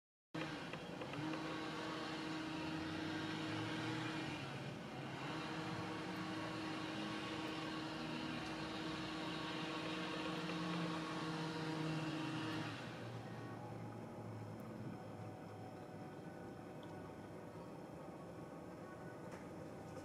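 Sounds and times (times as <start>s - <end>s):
low motor hum: 0.4s - 20.0s.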